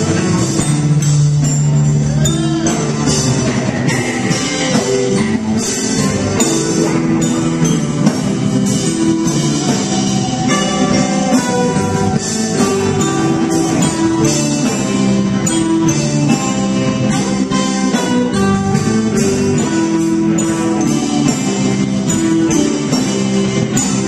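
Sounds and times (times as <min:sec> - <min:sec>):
drum kit with cymbals: 0:00.0 - 0:24.0
electric guitars: 0:00.0 - 0:24.0.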